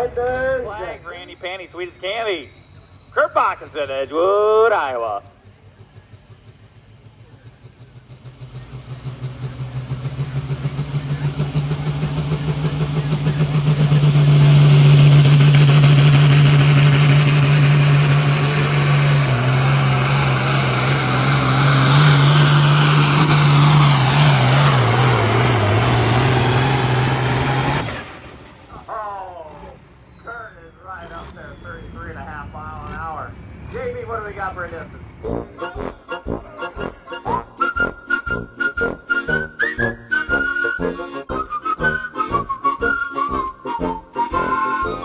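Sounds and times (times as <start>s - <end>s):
diesel tractor engine at full throttle: 0.0s - 45.0s.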